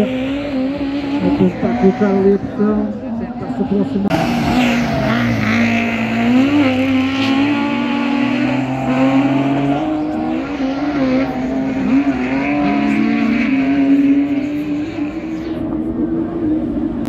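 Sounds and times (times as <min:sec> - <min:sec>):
rallycross car engines revving: 0:00.0 - 0:17.0.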